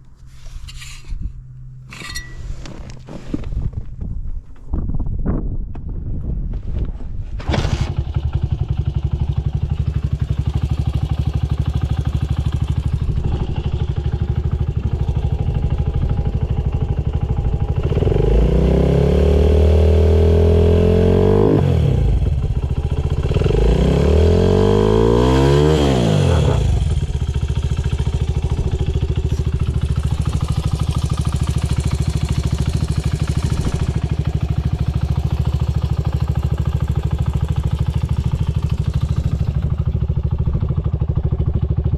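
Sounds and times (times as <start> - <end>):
motorcycle engine idling and revving: 7.4 - 41.9.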